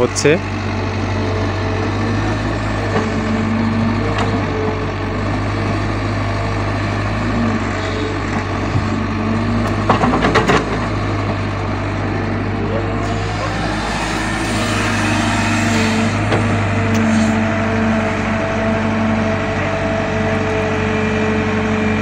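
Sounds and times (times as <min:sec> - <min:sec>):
diesel engine running under load: 0:00.0 - 0:22.0
hydraulic whine: 0:00.0 - 0:22.0.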